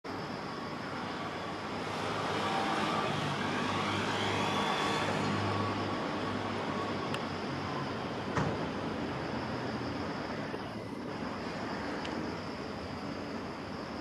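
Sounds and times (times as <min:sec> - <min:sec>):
faint whining tones: 0:00.1 - 0:14.0.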